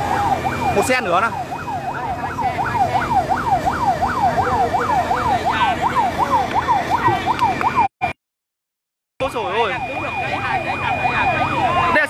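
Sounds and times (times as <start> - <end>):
fire engine siren yelping: 0.0 - 8.2, 9.2 - 12.0.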